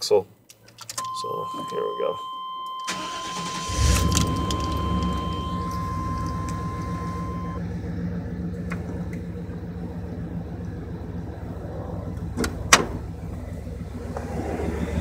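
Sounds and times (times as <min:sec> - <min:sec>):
truck engine idling: 0:02.9 - 0:15.0.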